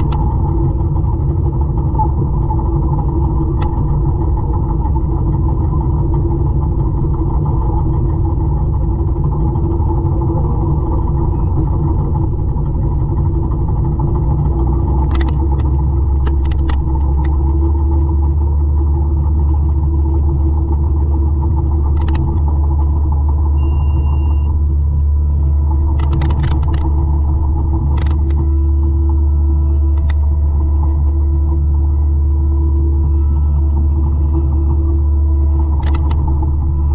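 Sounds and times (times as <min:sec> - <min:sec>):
mulcher low drone: 0:00.0 - 0:36.9.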